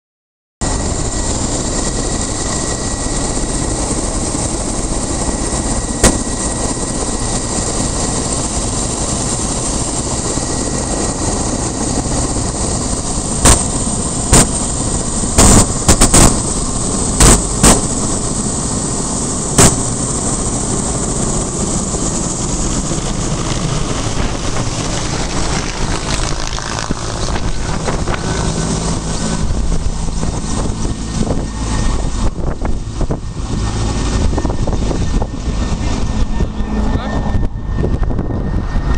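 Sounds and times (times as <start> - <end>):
helicopter rotor and turbine whine: 0.6 - 38.9.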